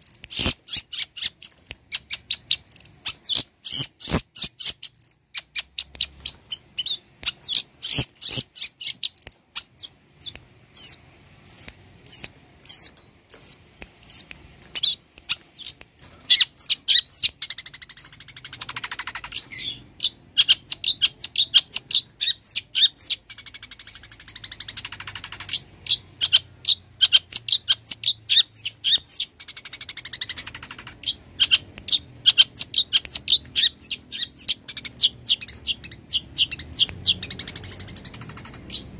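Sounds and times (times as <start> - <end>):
shrike chirping and whistling: 0.0 - 14.2, 14.8 - 38.9.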